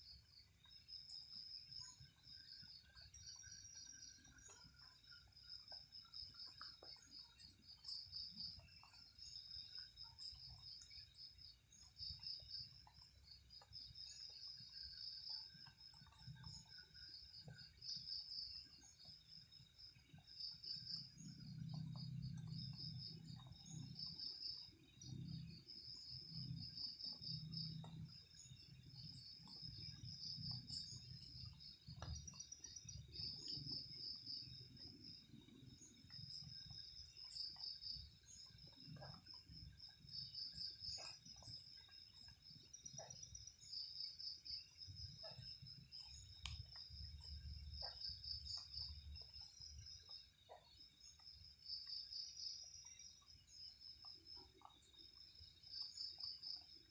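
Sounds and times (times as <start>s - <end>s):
night insects chirping: 0.0s - 56.9s
faint ticks: 0.1s - 56.9s.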